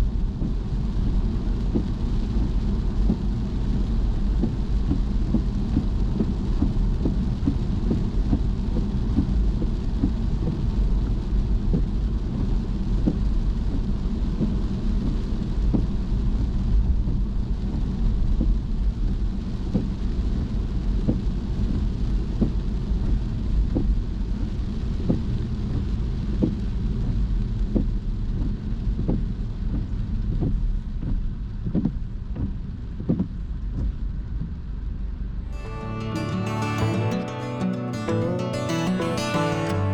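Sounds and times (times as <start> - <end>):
car driving on wet road: 0.0 - 35.0
rain pattering on a car: 0.0 - 35.5.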